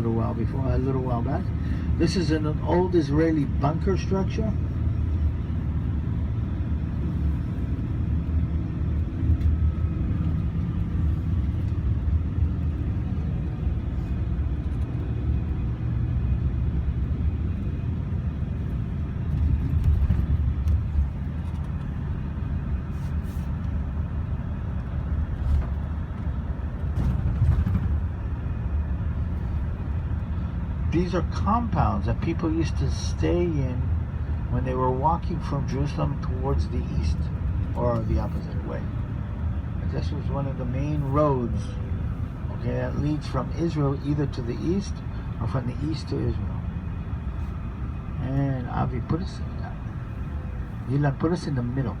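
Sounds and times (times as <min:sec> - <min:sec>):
vehicle engine and road rumble: 0:00.0 - 0:52.0.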